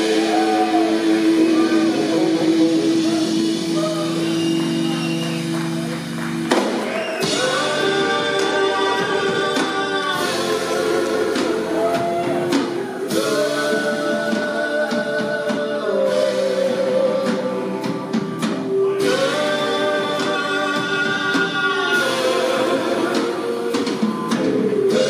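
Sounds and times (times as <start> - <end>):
person singing: 0.0 - 4.9, 7.2 - 25.0
drum kit: 0.0 - 25.0
electric bass: 0.0 - 25.0
electric guitar: 0.0 - 25.0.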